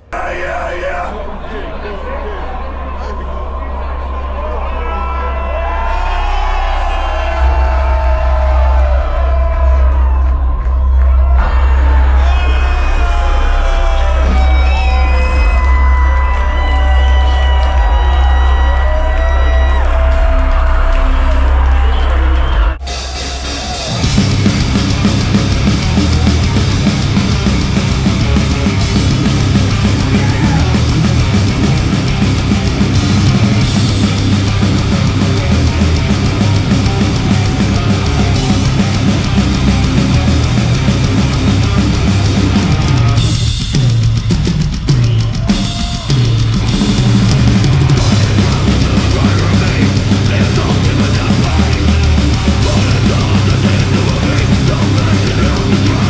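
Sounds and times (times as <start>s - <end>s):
heavy metal band playing live: 5.6s - 56.0s.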